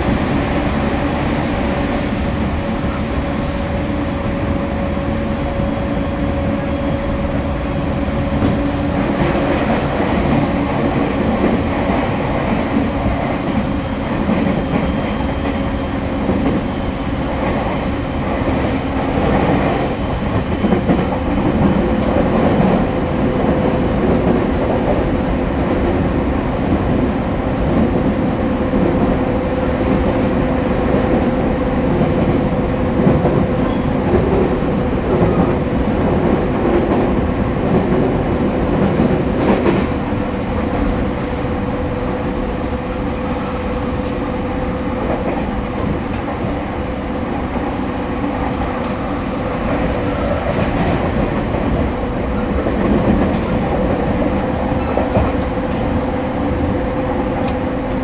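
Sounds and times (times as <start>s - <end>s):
steady train hum: 0.0s - 58.0s
train wheels rumbling on rail: 0.0s - 58.0s.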